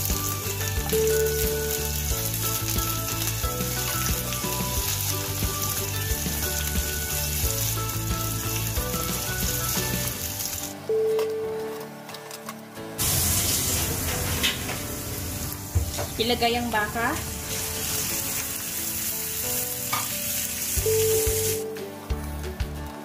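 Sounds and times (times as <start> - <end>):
onion sizzling in oil: 0.0 - 10.7, 13.0 - 21.6.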